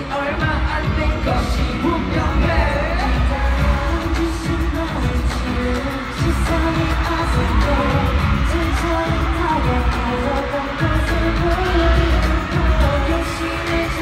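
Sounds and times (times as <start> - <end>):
heavy bass beat: 0.0 - 14.0
pop song with singing: 0.0 - 14.0.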